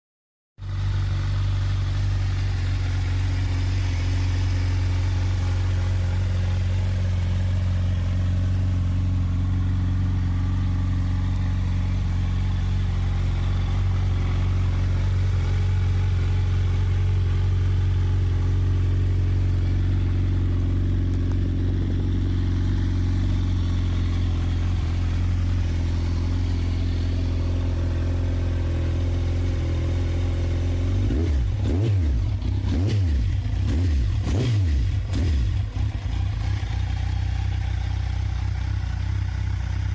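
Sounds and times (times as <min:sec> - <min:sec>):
motorcycle engine idling: 0:00.6 - 0:39.9.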